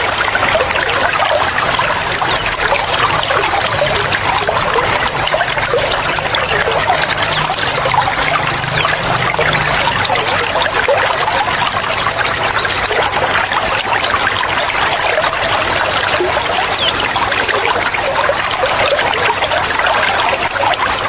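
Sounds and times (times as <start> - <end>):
birds chirping: 0.0 - 13.5, 15.6 - 21.0
water trickling and splashing: 0.0 - 21.0.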